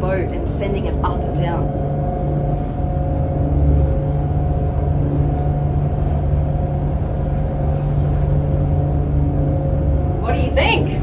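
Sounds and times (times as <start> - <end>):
boat running low rumble: 0.0 - 11.0
electric drive hum: 0.0 - 11.0.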